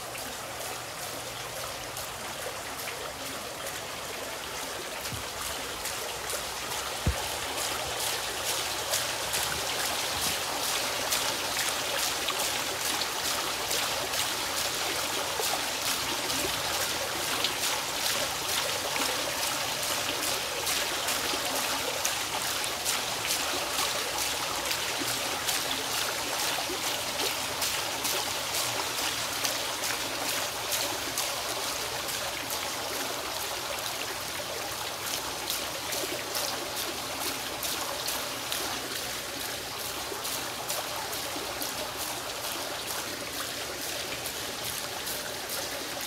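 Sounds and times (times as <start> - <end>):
fountain jet splashing: 0.0 - 46.0.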